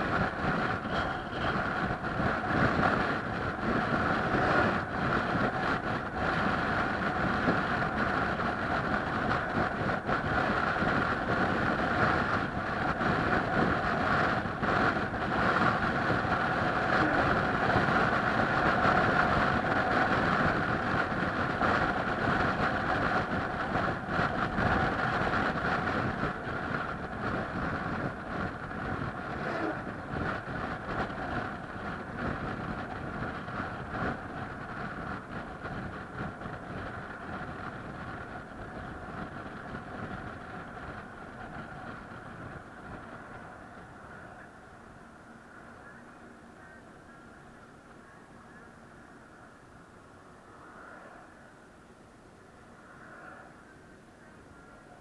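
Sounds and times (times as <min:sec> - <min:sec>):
road noise: 0:00.0 - 0:55.0
vehicle hum: 0:00.0 - 0:55.0.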